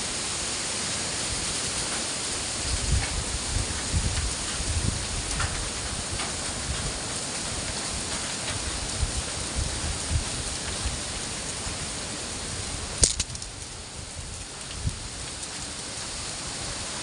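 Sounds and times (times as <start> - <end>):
strong wind buffeting microphone: 1.2 - 17.0.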